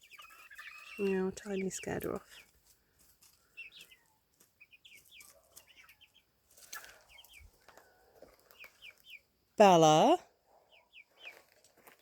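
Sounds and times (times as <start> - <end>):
chickens chirping and clucking: 0.0 - 12.0.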